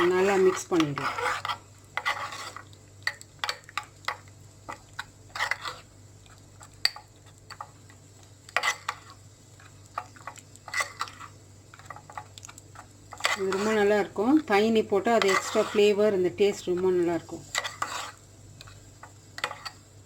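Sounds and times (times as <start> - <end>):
spoon stirring thick mixture in bowl: 0.0 - 19.8.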